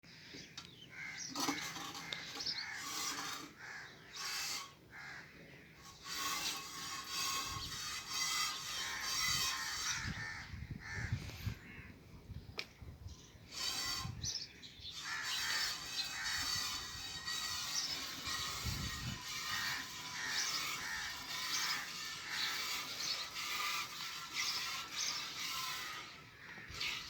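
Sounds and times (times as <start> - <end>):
birds giving harsh calls: 0.2 - 12.0, 13.2 - 27.0.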